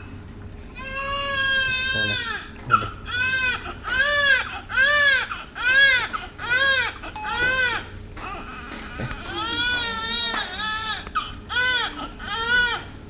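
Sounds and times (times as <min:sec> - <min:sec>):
baby crying: 0:00.8 - 0:12.9.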